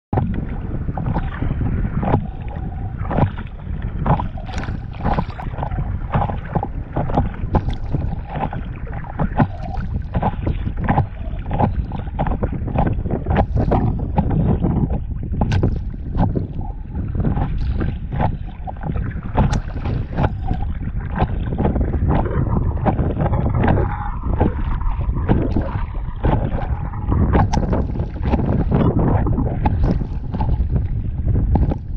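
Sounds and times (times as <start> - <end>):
wind rumble on microphone: 0.1 - 31.9
water splashing against paddleboard: 0.2 - 31.9.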